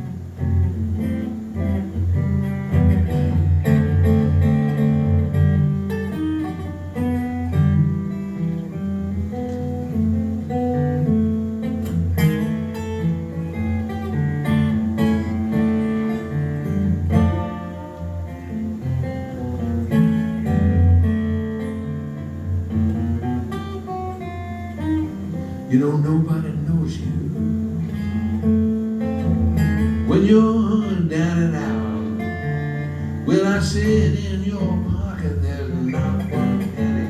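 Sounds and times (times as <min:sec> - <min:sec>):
acoustic blues guitar: 0:00.0 - 0:37.0.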